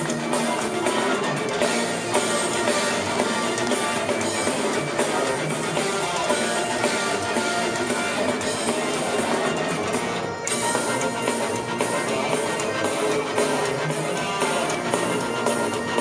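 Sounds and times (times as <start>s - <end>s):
metal band playing live: 0.0s - 16.0s.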